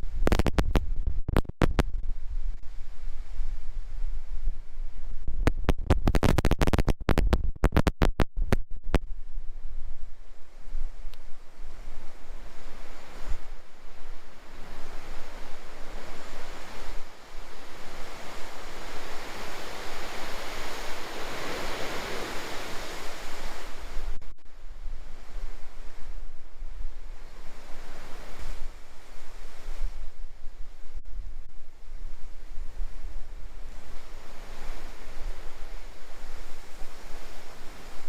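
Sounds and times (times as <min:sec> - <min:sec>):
strong wind gusts buffeting microphone: 0:00.0 - 0:38.0.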